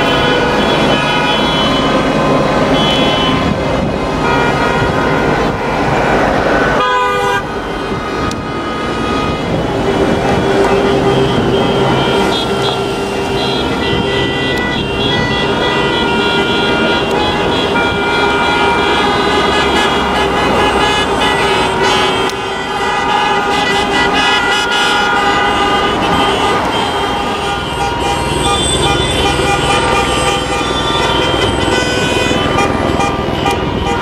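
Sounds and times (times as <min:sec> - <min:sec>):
car horns honking: 0:00.0 - 0:34.0
motorway traffic hum: 0:00.0 - 0:34.0.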